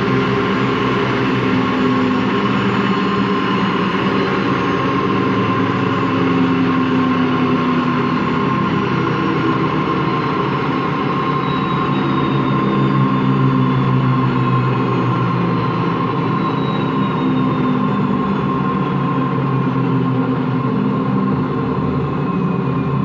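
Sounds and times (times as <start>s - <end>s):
washing machine spin whine: 0.0s - 23.0s.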